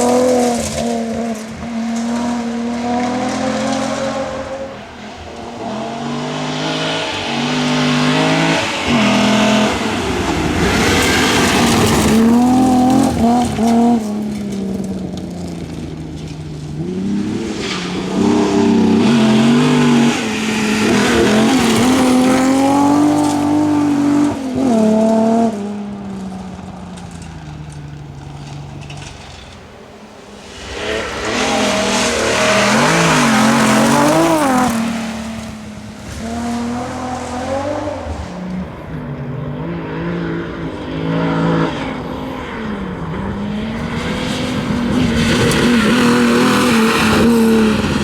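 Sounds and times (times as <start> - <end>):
rally car engine revving: 0.0 - 48.0.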